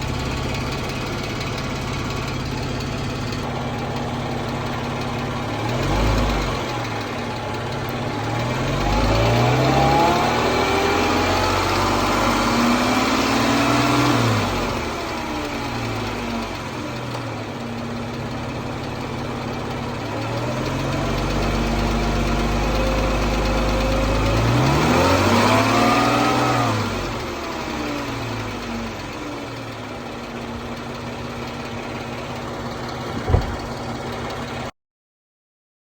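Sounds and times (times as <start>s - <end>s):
car engine idling and revving: 0.0s - 34.7s.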